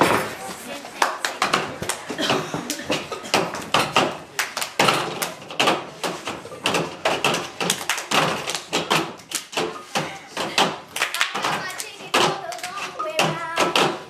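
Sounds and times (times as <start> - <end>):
hand claps: 1.0 - 14.0.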